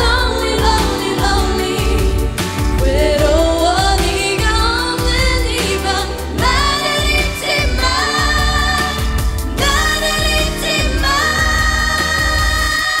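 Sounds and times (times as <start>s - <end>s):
pop instrumental with steady beat: 0.0s - 13.0s
woman singing into a microphone: 0.0s - 13.0s.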